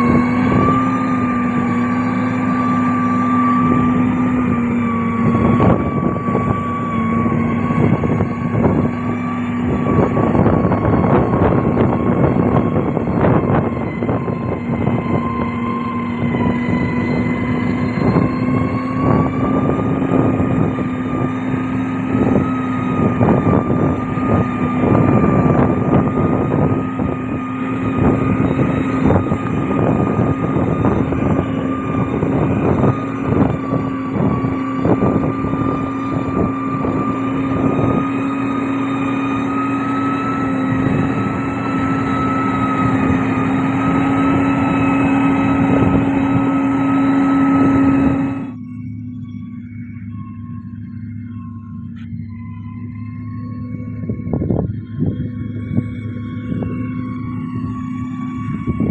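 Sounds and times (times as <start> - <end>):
diesel machine engine humming: 0.0 - 58.9.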